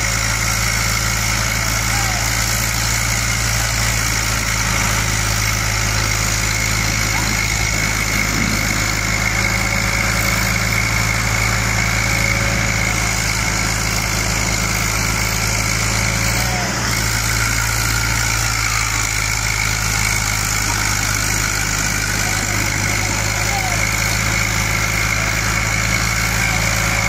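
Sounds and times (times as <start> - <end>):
diesel tractor engines under load: 0.0 - 27.0.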